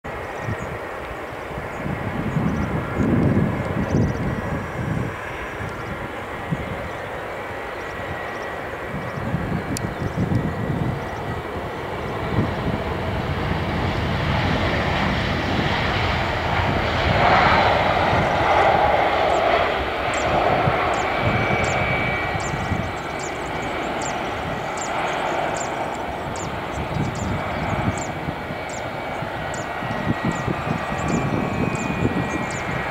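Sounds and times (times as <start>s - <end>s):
jet engines rumbling: 0.1s - 32.9s.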